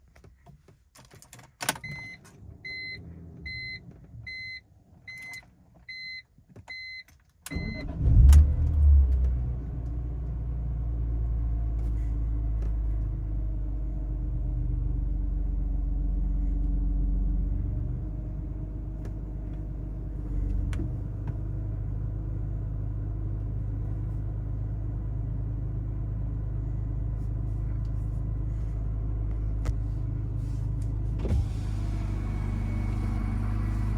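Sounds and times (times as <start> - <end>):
car engine starting and idling: 1.5 - 6.0, 7.4 - 33.9.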